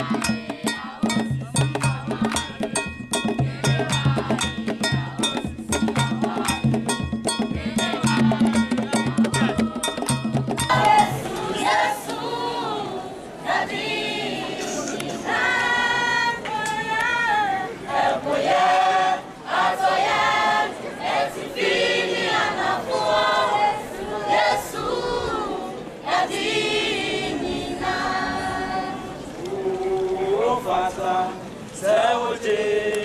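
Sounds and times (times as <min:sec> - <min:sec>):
choir singing unaccompanied: 0:00.0 - 0:33.0.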